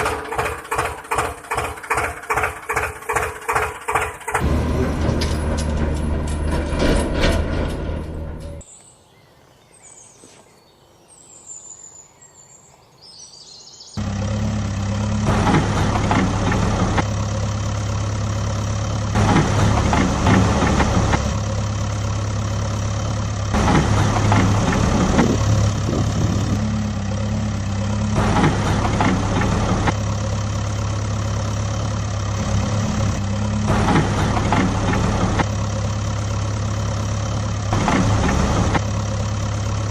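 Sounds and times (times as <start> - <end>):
vehicle engine idling: 0.0 - 8.6, 14.0 - 39.9.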